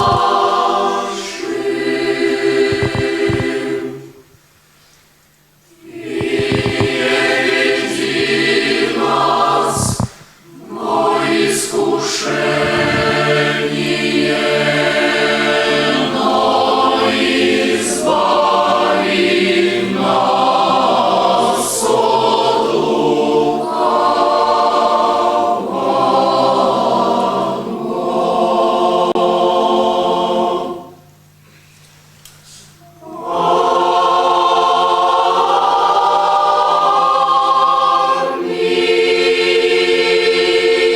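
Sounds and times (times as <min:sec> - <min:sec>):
choir singing sustained chords: 0:00.0 - 0:04.4, 0:05.6 - 0:31.4, 0:32.8 - 0:40.9.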